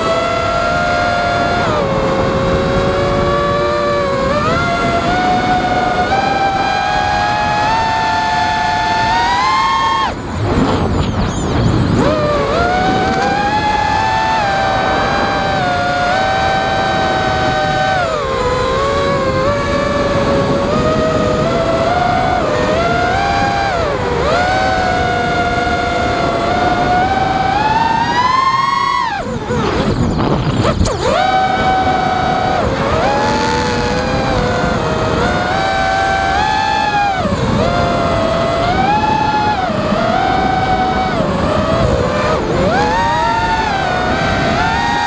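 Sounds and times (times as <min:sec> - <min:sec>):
drone motors whining: 0:00.0 - 0:45.0.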